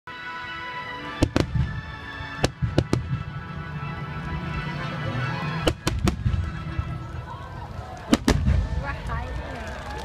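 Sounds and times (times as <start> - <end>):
music with sustained notes: 0.1 - 8.4.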